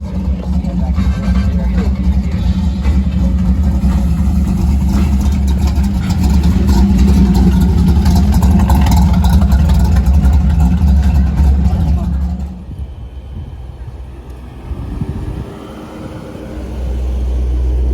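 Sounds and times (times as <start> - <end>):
hot rod engine rumbling past: 0.0 - 17.9.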